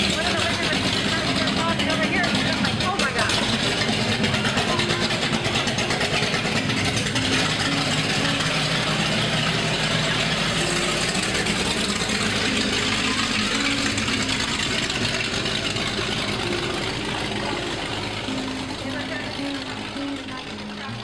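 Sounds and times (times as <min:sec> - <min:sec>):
motorboat engine idling: 0:00.0 - 0:21.0.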